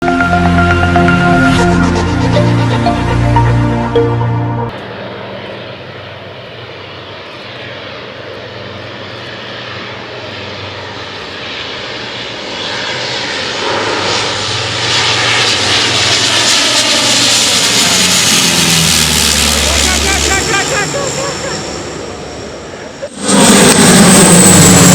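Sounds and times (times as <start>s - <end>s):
turboprop engines running: 0.0s - 24.9s.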